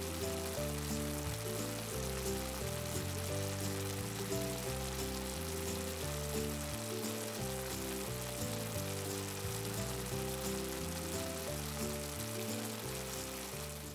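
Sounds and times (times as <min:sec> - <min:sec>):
background music with held chords: 0:00.0 - 0:13.9
steak sizzling in a frying pan: 0:00.0 - 0:13.9.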